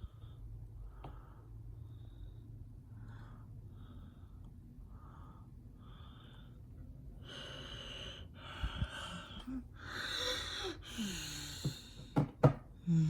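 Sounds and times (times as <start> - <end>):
person breathing: 0.0 - 12.2, 12.8 - 13.0.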